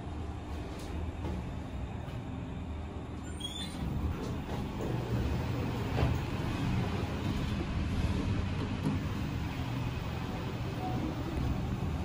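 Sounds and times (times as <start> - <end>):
elevator rumble and hum: 0.0 - 12.0.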